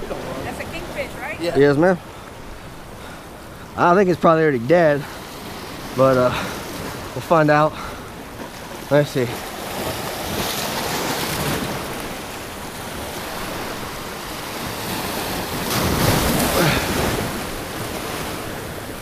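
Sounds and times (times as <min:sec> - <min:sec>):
waves breaking on rocks: 0:00.0 - 0:19.0.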